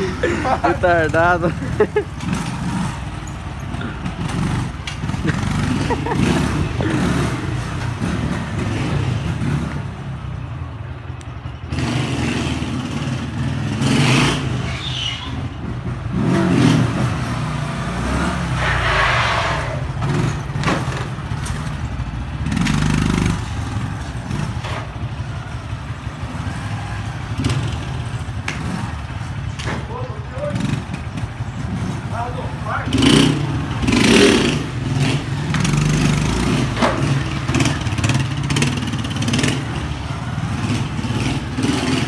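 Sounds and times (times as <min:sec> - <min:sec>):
motorcycle engine revving: 0:00.0 - 0:10.4, 0:11.5 - 0:42.0.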